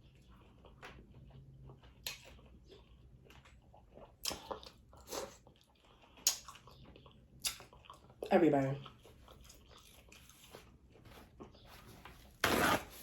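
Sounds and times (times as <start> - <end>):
person chewing and biting: 0.0 - 8.2, 8.9 - 11.6.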